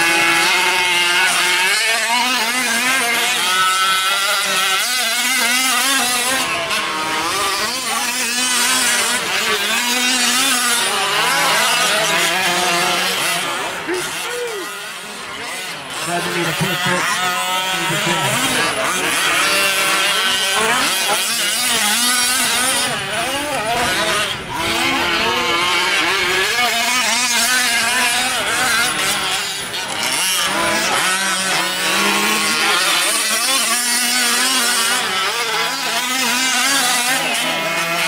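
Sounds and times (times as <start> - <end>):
small two-stroke engines revving: 0.0 - 38.0.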